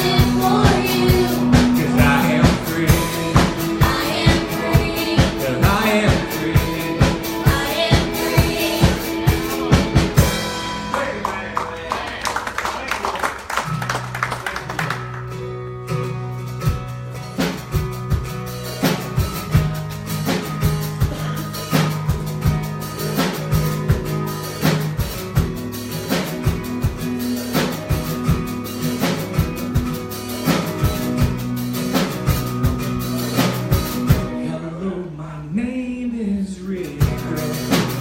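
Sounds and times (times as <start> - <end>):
drum kit beat: 0.0 - 34.5, 36.8 - 38.0
guitar: 0.0 - 38.0
held bass notes: 0.0 - 38.0.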